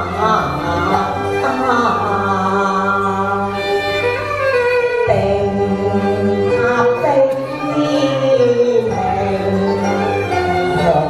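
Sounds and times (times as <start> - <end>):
instrumental accompaniment: 0.0 - 11.0.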